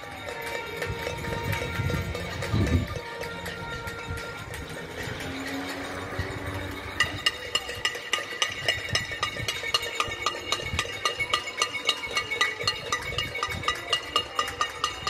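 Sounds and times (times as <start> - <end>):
struck metallic notes: 0.4 - 15.0.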